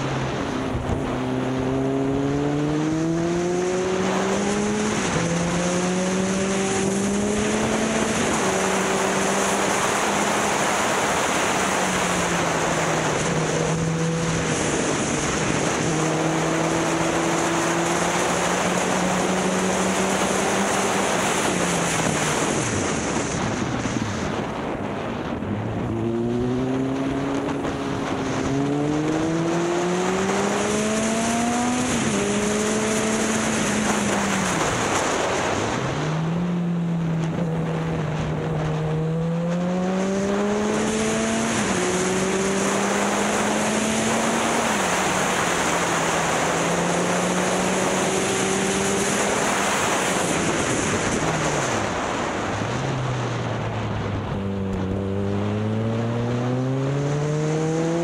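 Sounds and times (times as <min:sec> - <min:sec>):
motorcycle engine accelerating: 0:00.0 - 0:58.0
wind rushing on microphone: 0:00.0 - 0:58.0.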